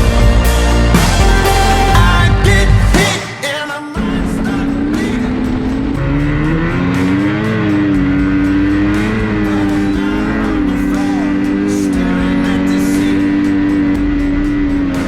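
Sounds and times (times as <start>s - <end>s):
music playing: 0.0s - 15.0s
snowmobile engine running: 0.0s - 15.0s.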